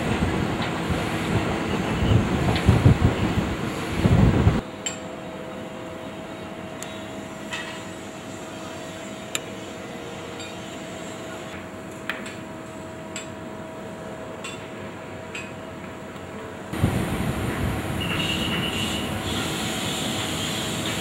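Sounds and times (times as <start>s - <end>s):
low city hum: 0.0s - 21.0s.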